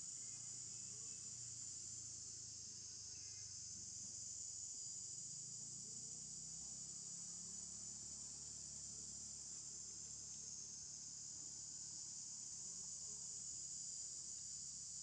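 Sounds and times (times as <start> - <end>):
faint low hum: 0.0 - 15.0
insect chorus drone: 0.0 - 15.0.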